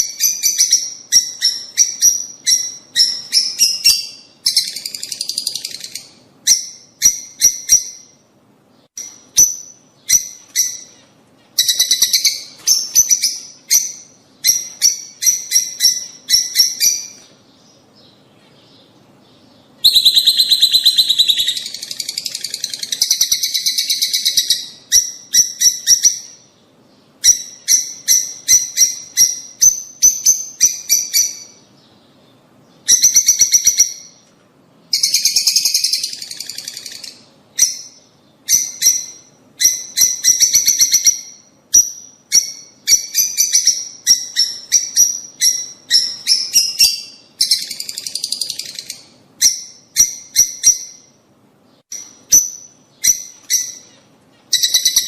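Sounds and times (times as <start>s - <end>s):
lovebirds chirping: 0.0s - 55.0s.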